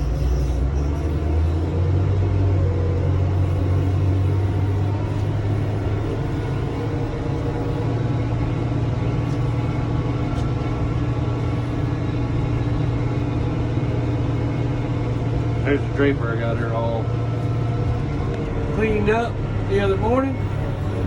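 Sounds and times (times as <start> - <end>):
large engine rumbling: 0.0 - 21.0.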